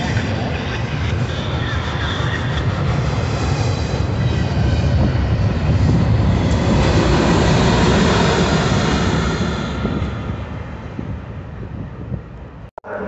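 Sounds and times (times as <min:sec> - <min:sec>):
freight train wheels rumbling on rail: 0:00.0 - 0:12.7.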